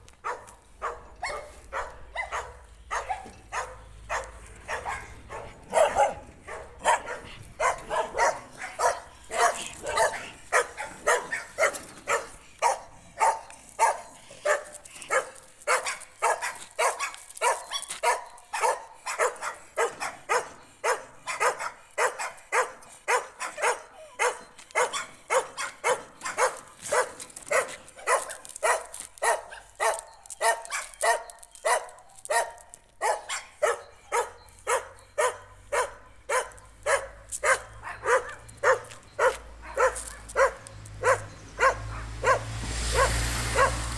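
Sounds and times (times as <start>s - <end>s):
dog barking rapidly: 0.2s - 43.9s.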